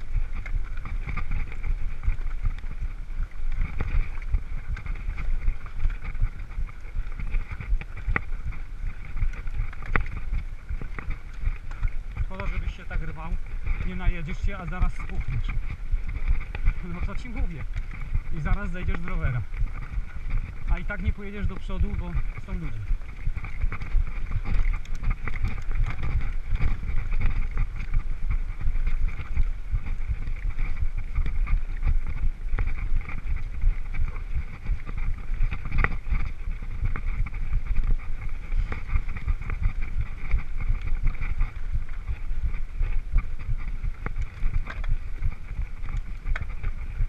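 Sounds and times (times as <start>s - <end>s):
bike rattling over stones: 0.0s - 47.0s
wind buffeting microphone: 0.0s - 47.0s.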